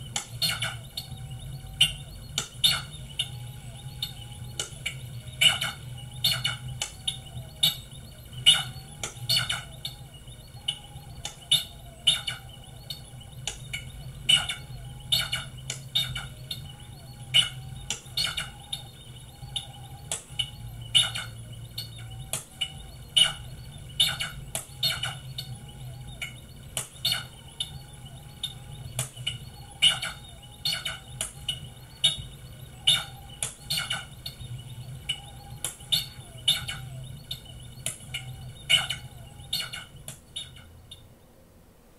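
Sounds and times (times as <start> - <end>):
low synthesizer drone: 0.0 - 41.2
synthesizer chirps and clicks: 0.0 - 41.2.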